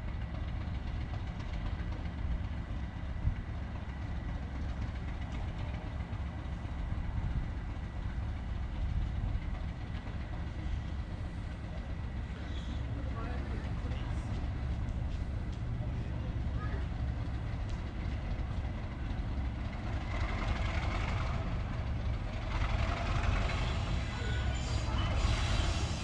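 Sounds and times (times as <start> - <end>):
diesel train rumble: 0.0 - 26.0.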